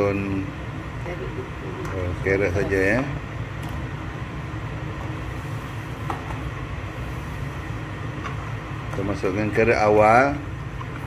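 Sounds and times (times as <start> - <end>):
kitchen hum and hiss: 0.0 - 11.0.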